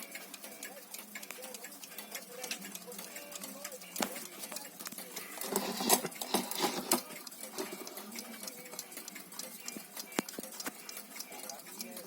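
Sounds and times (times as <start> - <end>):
alarm clock mechanism clattering: 0.0 - 12.0
scattered clicks: 0.0 - 12.0.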